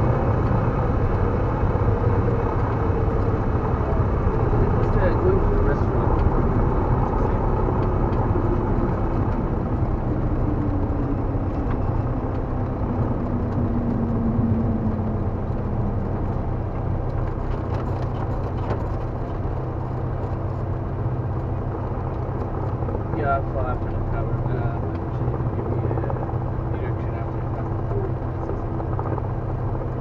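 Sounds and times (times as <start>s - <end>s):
airplane engine and propeller droning: 0.0s - 30.0s.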